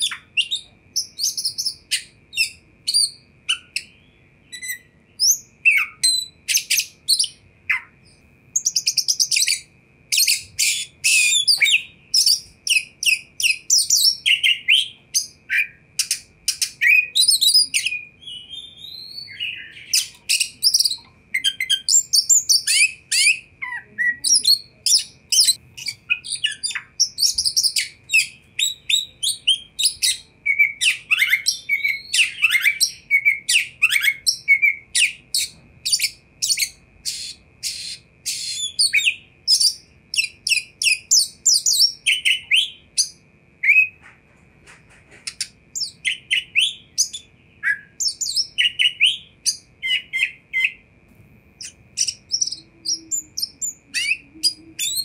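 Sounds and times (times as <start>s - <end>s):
magpie-robin singing: 0.0s - 44.0s, 45.2s - 50.8s, 51.6s - 55.0s.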